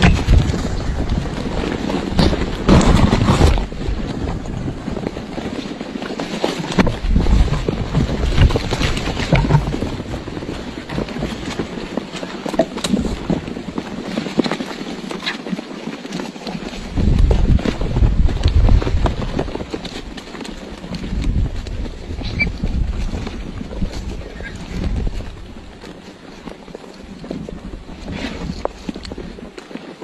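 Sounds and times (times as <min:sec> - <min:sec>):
wind buffeting microphone: 0:00.0 - 0:15.2, 0:16.5 - 0:30.0
small clicks and rustles: 0:00.0 - 0:30.0.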